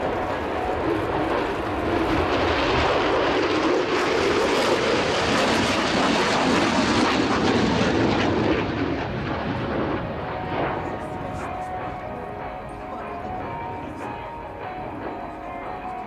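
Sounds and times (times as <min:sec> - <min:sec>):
jet roar flying past: 0:00.0 - 0:14.2.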